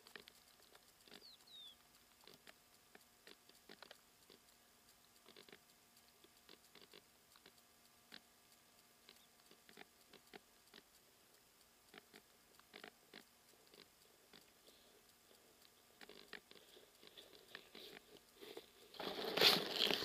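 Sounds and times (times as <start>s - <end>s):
faint clicks and crackles: 0.0s - 20.0s
faint steady hum: 0.0s - 20.0s.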